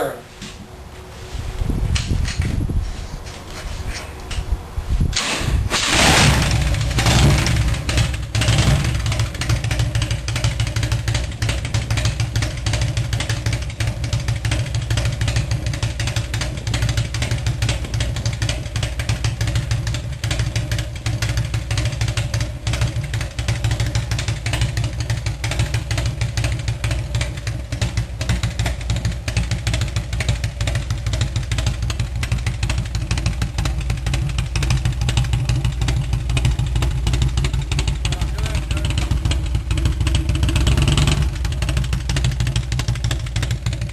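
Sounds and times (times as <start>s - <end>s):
motorcycle engine running: 1.6s - 43.9s.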